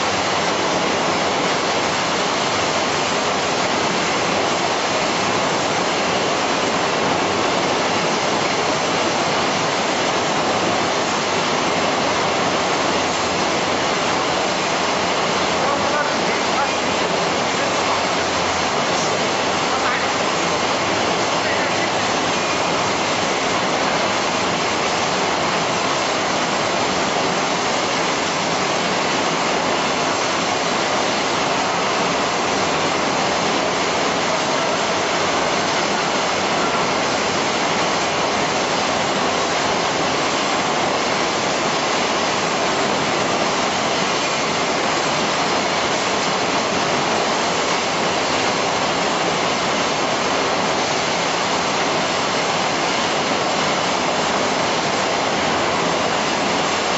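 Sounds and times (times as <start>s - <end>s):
processing line machinery running: 0.0s - 56.9s.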